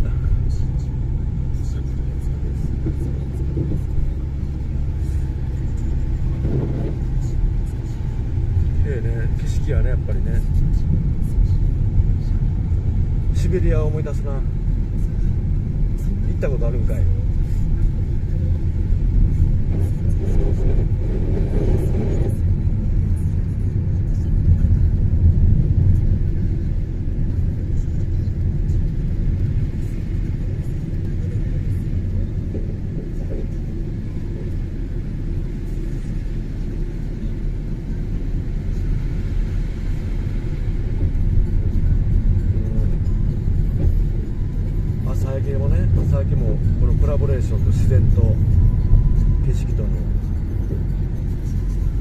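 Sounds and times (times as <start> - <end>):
vehicle tyres and engine rumble: 0.0 - 52.0.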